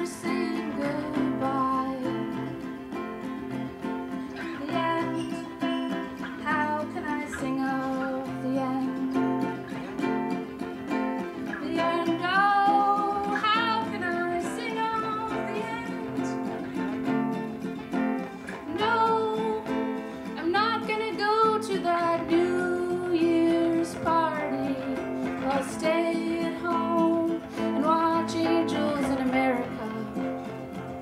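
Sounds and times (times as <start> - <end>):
person singing: 0.0 - 3.2, 4.3 - 10.2, 11.3 - 17.3, 18.4 - 30.6
acoustic guitar: 0.0 - 31.0
ukulele: 0.0 - 31.0.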